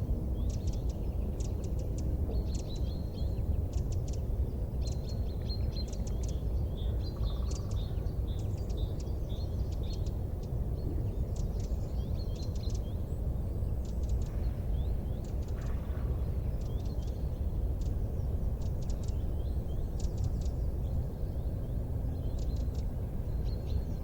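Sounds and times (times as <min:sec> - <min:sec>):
steady low rumble: 0:00.0 - 0:24.0
small birds chirping: 0:00.3 - 0:24.0.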